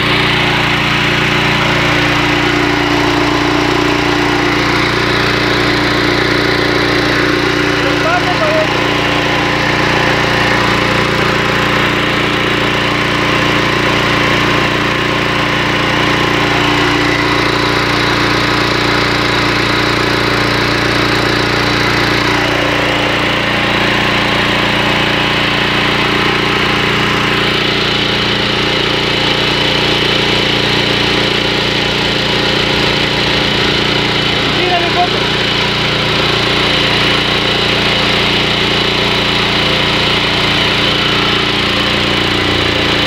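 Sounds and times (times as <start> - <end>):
petrol engine running steadily: 0.0 - 43.0.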